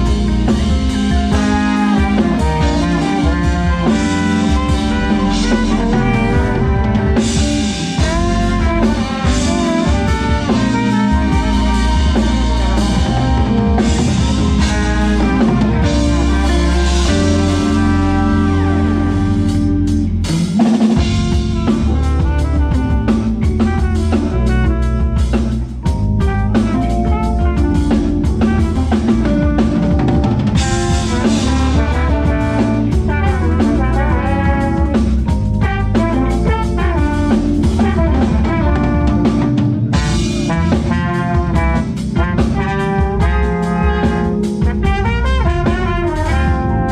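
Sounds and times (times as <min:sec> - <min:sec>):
bass: 0:00.0 - 0:46.9
drum kit: 0:00.0 - 0:46.9
pitched instruments: 0:00.0 - 0:46.9.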